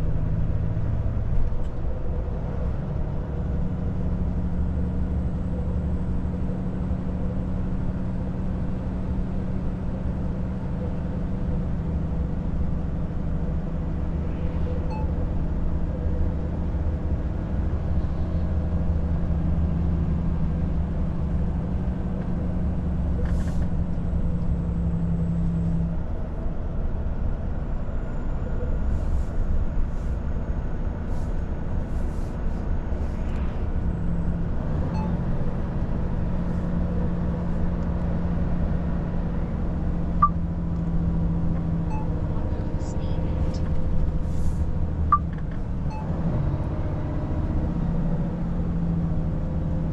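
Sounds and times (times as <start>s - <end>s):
road noise: 0.0s - 49.9s
truck engine droning: 0.0s - 49.9s.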